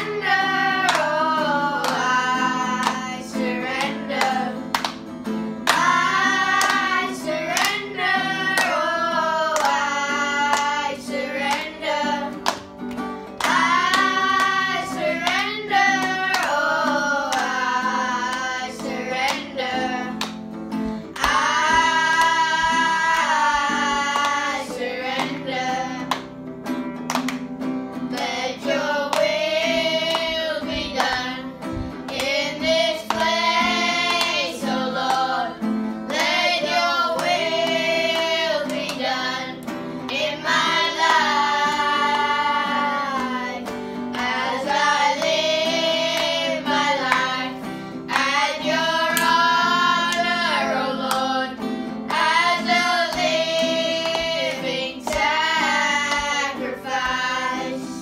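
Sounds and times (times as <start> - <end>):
children singing in unison: 0.0 - 5.0, 5.6 - 12.6, 13.4 - 20.4, 21.0 - 26.3, 28.1 - 58.0
strummed acoustic guitar: 0.0 - 58.0.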